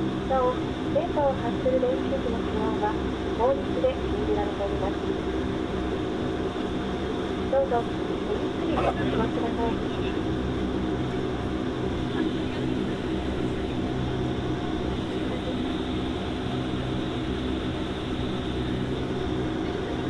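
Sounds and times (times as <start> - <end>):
turboprop engine drone: 0.0 - 20.0.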